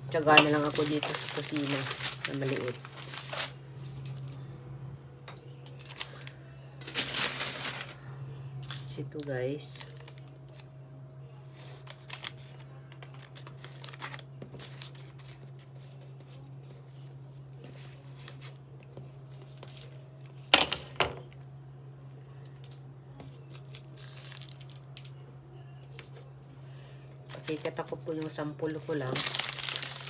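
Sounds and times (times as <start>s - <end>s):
steady low hum: 0.0s - 29.1s.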